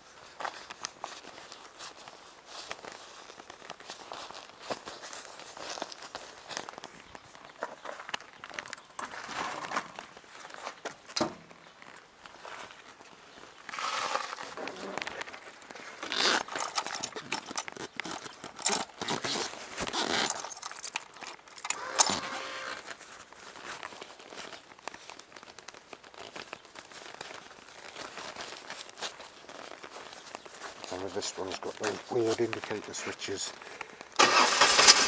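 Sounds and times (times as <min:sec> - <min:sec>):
rustling and crinkling: 0:00.0 - 0:34.2.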